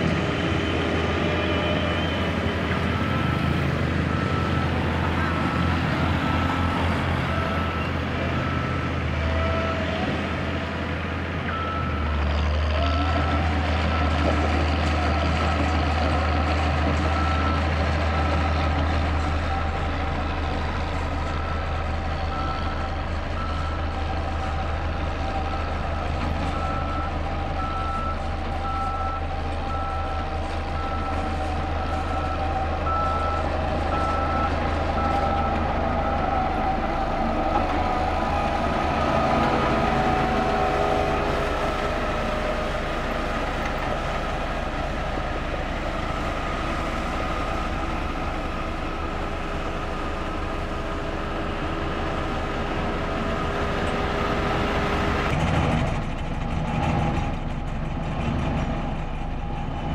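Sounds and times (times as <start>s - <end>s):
road roller engine rumble: 0.0s - 59.9s
reversing alarm beeping: 0.2s - 10.2s, 11.4s - 51.1s.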